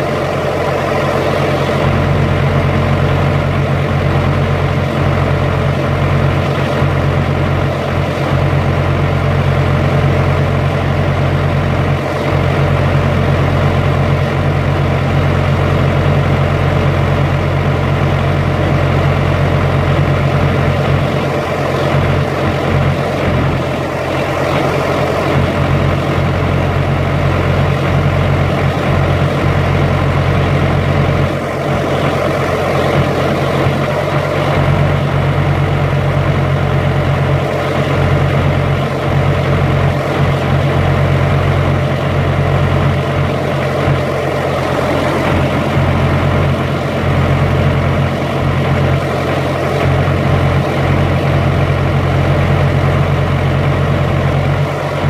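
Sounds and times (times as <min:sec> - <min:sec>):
refrigeration unit engine humming: 0:00.0 - 0:55.0.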